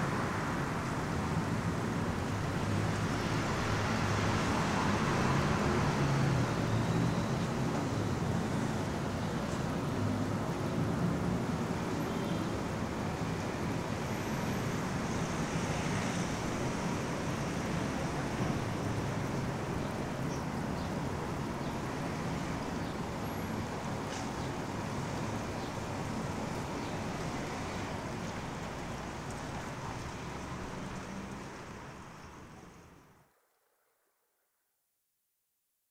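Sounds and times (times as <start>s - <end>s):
city street traffic: 0.0s - 33.2s.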